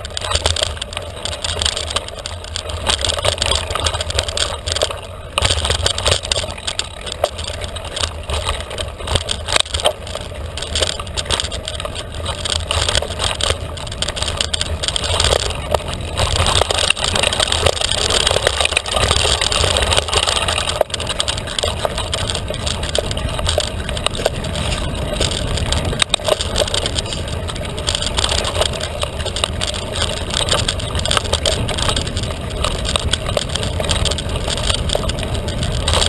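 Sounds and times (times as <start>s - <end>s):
bike rattles and clicks: 0.0s - 36.0s
bike tyre noise: 0.0s - 36.0s
wind rumbling on microphone: 0.0s - 36.0s.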